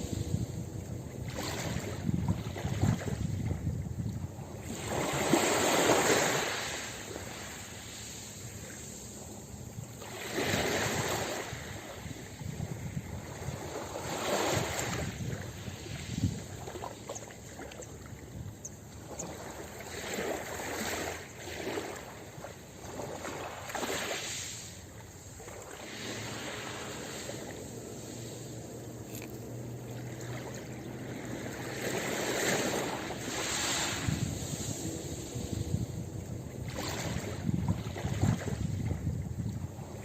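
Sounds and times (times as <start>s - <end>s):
ocean waves washing onto beach: 0.0s - 40.0s.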